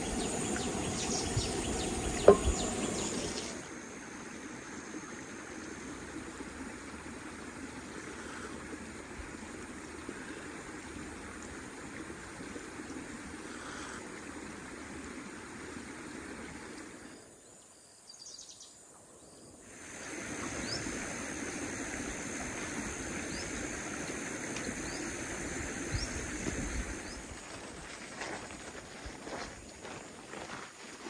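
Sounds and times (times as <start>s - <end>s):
forest rushing hiss: 0.0s - 31.0s
high steady insect tone: 0.0s - 31.0s.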